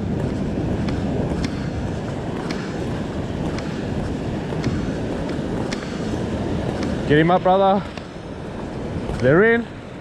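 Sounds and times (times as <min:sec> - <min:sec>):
surf washing against rock: 0:00.0 - 0:10.0
wind buffeting microphone: 0:00.0 - 0:10.0.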